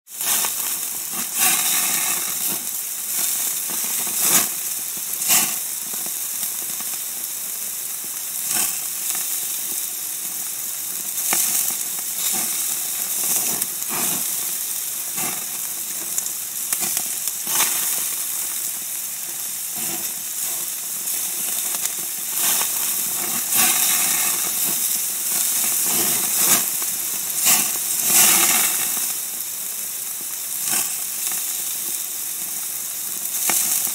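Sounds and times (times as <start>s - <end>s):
meat sizzling as it fries: 0.1s - 33.9s.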